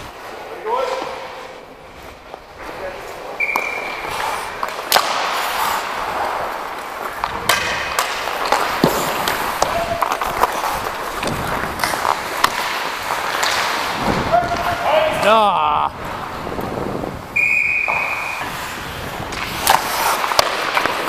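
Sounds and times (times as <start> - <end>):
hockey sticks and puck clacking: 0.0 - 21.0
skates scraping on ice: 0.0 - 21.0.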